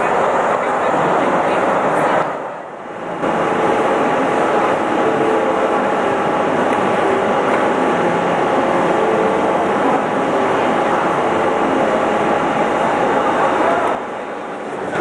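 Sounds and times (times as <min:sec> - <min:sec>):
machine hum with held tones: 0:02.8 - 0:15.0.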